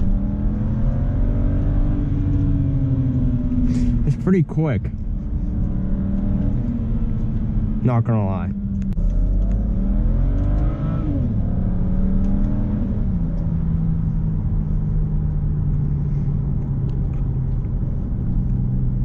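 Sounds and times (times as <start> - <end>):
car engine accelerating: 0.0 - 19.0
tyre and road noise: 0.0 - 19.0.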